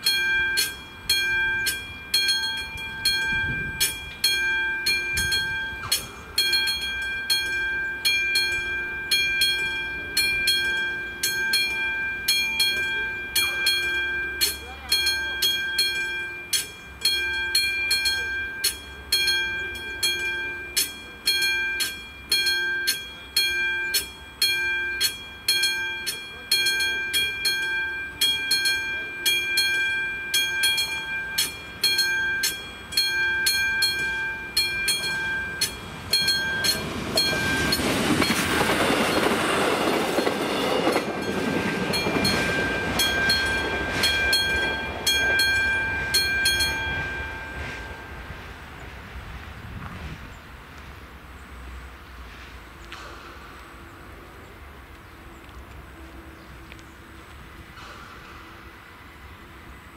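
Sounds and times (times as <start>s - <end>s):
level crossing warning bell: 0.0s - 48.9s
passing train rumble: 0.0s - 59.9s.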